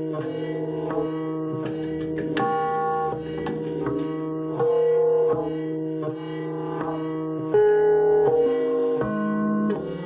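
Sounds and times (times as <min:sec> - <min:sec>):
plucked string instrument music: 0:00.0 - 0:10.0.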